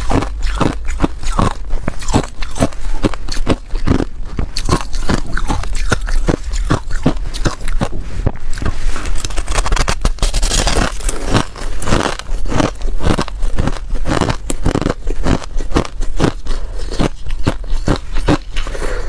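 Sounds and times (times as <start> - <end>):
person chewing ice: 0.0 - 19.0.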